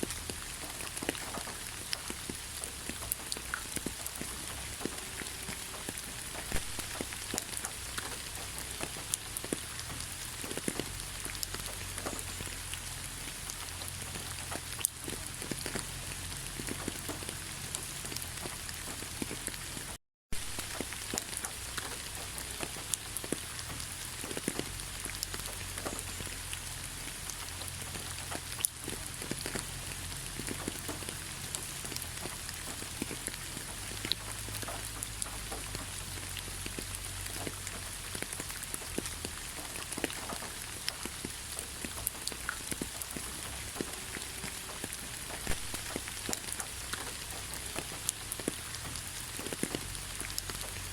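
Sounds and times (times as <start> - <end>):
rain falling in forest: 0.0 - 50.9.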